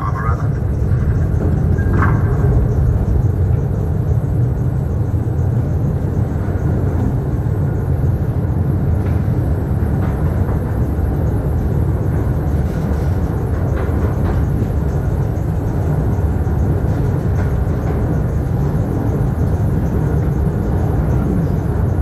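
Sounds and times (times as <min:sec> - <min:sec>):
train rumbling in tunnel: 0:00.0 - 0:22.0.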